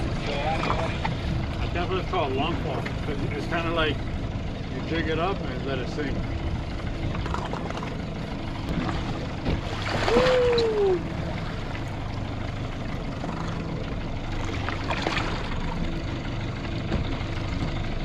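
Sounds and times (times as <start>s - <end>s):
boat engine idling: 0.0s - 18.0s
water noise: 0.0s - 18.0s.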